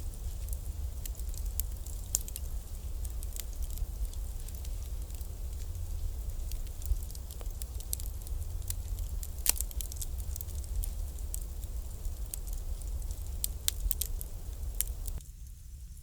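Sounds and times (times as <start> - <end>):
bonfire crackling and popping: 0.0 - 16.0
low fire rumble: 0.0 - 16.0.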